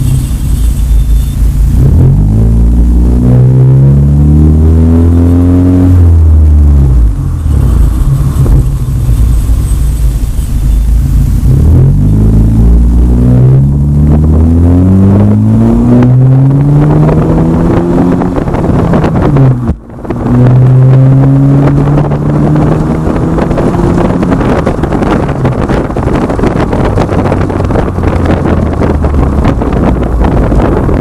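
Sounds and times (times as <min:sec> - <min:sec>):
car exhaust accelerating hard: 0:00.0 - 0:31.0.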